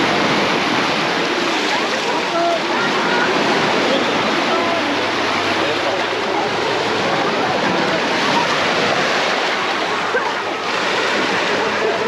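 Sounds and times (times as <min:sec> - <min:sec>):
indistinct voices: 0:00.0 - 0:12.0
sea surf washing onto beach: 0:00.0 - 0:12.0.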